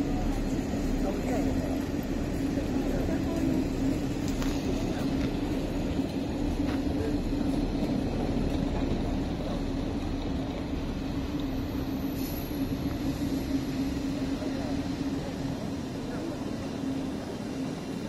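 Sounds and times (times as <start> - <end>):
train mechanical hum: 0.0 - 18.0.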